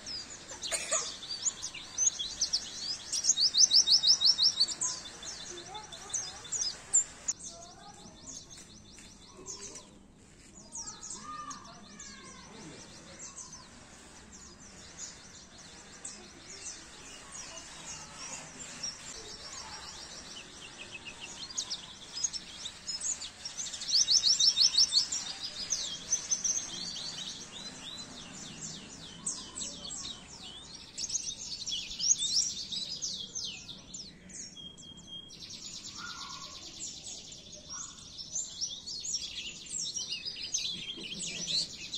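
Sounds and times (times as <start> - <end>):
bird twittering and trills: 0.0 - 41.9.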